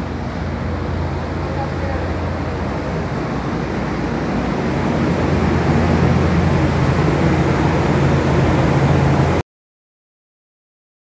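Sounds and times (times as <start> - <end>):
rushing noise: 0.0 - 9.4
ship machinery humming: 0.0 - 9.4.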